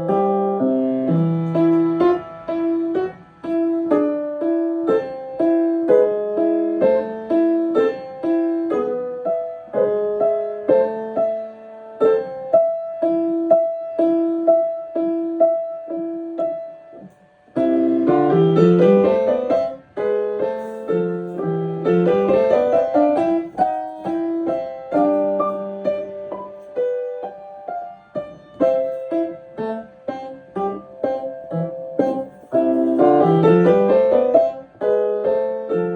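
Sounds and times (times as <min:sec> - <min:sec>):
solo piano: 0:00.0 - 0:35.9.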